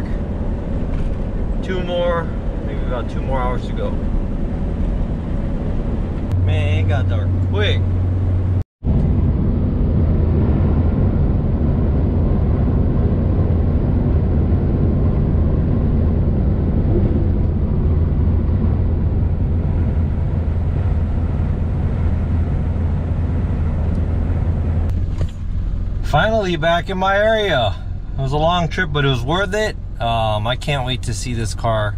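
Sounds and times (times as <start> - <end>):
truck engine drone: 0.0 - 31.9
tyre and road noise: 0.0 - 31.9.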